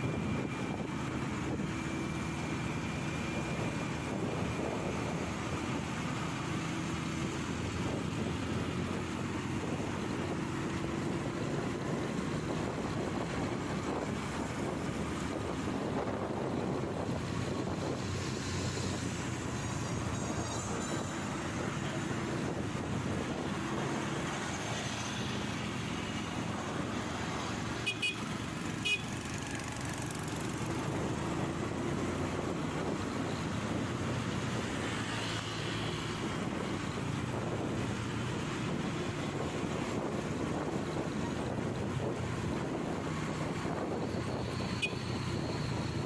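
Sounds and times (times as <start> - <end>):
road noise: 0.0 - 46.0.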